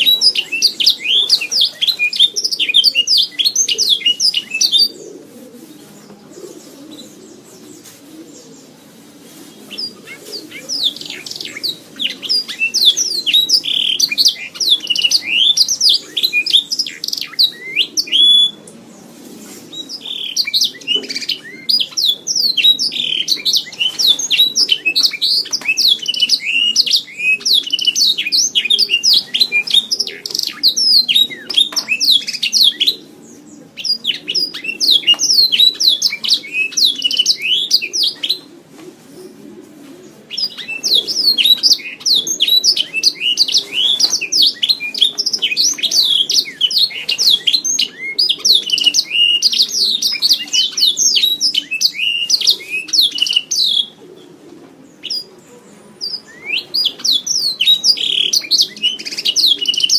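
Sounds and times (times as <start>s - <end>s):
canary singing: 0.0s - 9.0s, 9.6s - 18.8s, 19.8s - 38.6s, 40.0s - 59.9s.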